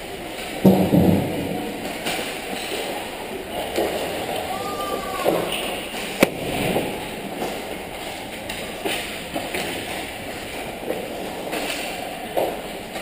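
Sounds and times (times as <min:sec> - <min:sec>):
echoing rink noise: 0:00.0 - 0:13.0.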